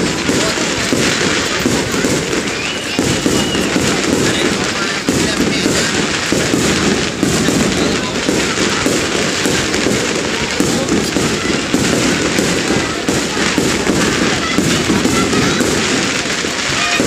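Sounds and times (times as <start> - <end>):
crowd voices: 0.0 - 17.0
fireworks bangs and crackling: 0.0 - 17.0.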